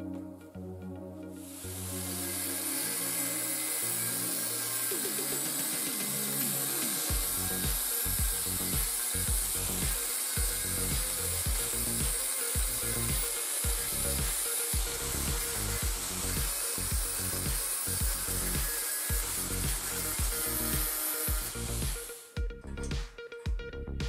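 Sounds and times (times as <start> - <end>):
angle grinder cutting steel: 1.4 - 22.4.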